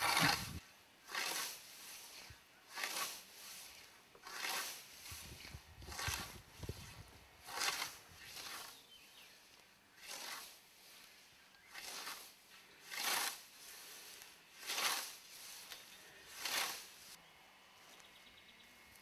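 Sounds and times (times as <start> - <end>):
scythe swishing through grass: 0.0 - 17.2.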